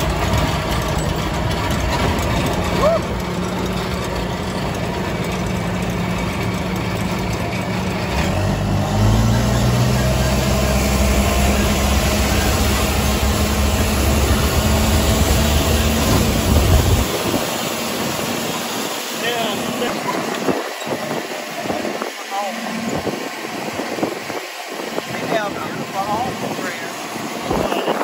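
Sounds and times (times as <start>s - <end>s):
road and wind noise: 0.0s - 28.0s
tram engine running: 0.0s - 28.0s.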